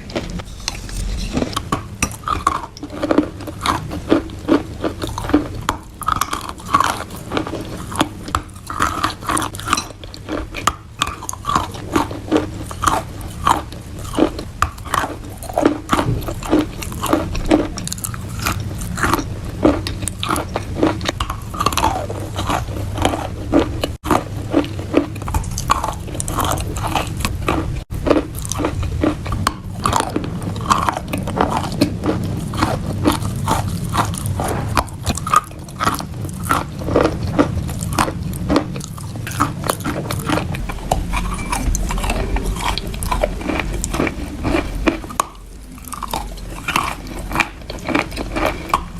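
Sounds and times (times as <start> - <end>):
steady low hum: 0.0 - 48.9
moist crunching chewing: 2.1 - 48.9.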